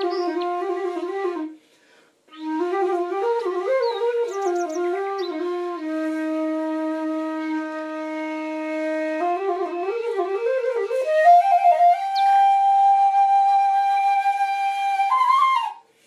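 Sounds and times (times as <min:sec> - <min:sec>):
slow flute melody: 0:00.0 - 0:01.7, 0:02.3 - 0:16.0.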